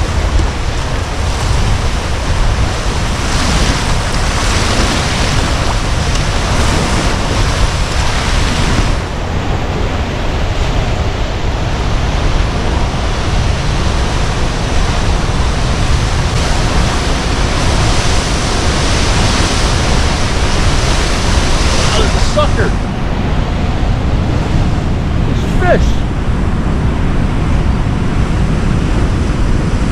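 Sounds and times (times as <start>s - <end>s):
floodwater rushing: 0.0s - 26.8s.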